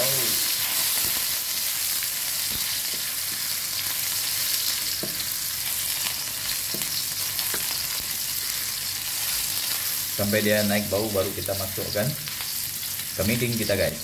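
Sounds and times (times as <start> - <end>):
garlic sizzling in hot oil: 0.0 - 14.0.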